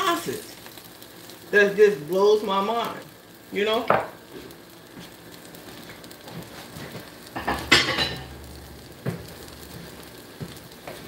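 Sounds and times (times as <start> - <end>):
pancakes sizzling on griddle: 0.0 - 11.0.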